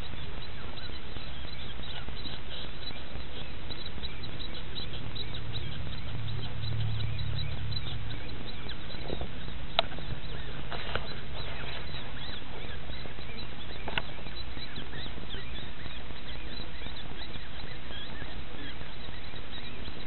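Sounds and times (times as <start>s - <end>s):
animal kit squeaking: 0.0s - 20.0s.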